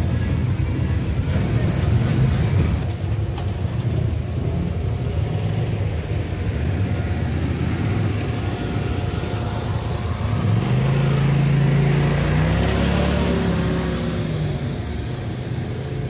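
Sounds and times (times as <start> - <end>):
utility vehicle engine rumbling: 0.0 - 16.0.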